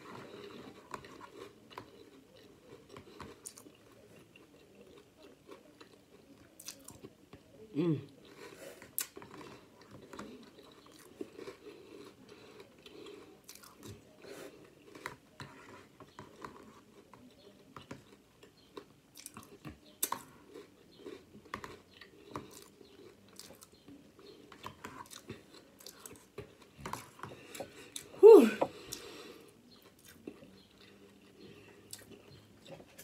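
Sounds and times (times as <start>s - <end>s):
person chewing crunchy cereal: 0.0s - 7.1s, 8.1s - 28.1s, 28.8s - 33.0s.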